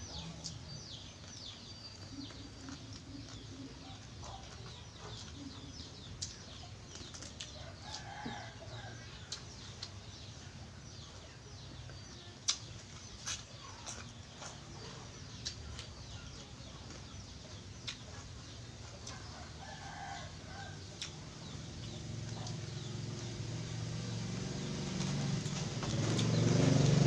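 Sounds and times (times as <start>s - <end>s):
chickens clucking: 0.0s - 23.6s.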